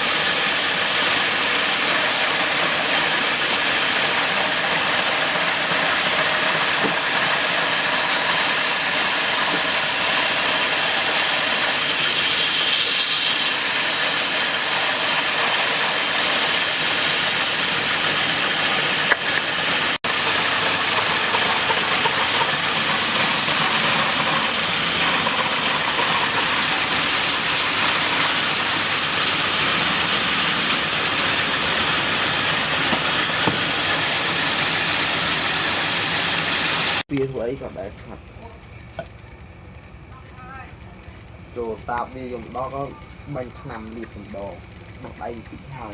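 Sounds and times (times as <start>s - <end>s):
woodworking power tool running: 0.0s - 37.1s, 39.7s - 45.9s.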